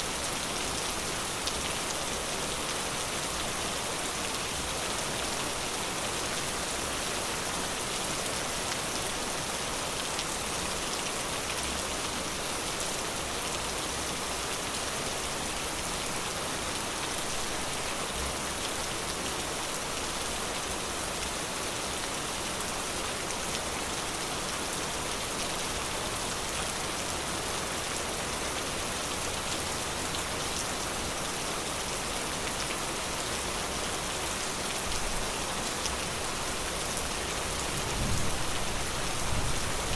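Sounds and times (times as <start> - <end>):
rain pattering on forest: 0.0 - 39.9.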